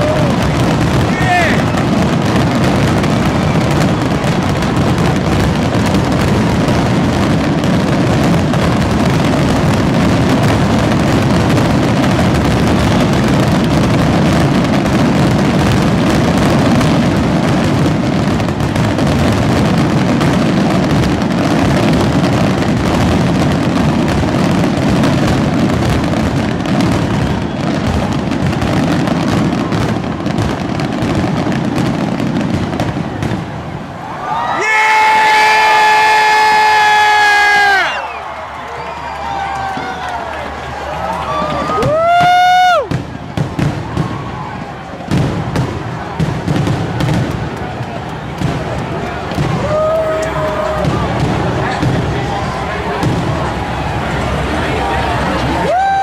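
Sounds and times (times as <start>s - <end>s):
fireworks barrage: 0.0s - 56.0s.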